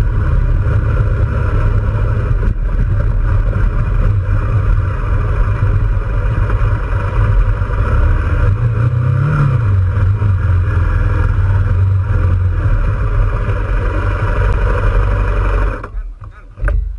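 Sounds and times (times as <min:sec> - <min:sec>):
tyres on gravel road: 0:00.0 - 0:16.9
vehicle engine running: 0:00.0 - 0:16.9.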